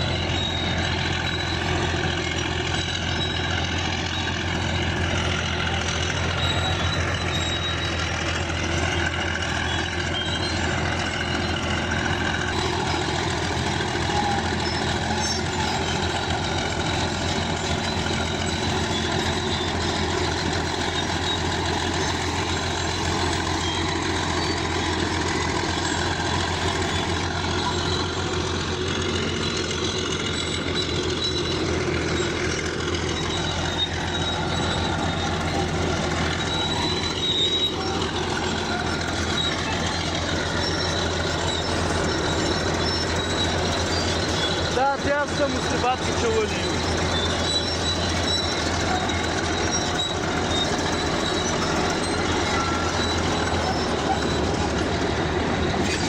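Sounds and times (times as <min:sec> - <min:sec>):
bulldozer diesel engine running: 0:00.0 - 0:56.0
high-pitched squeaks: 0:00.0 - 0:56.0.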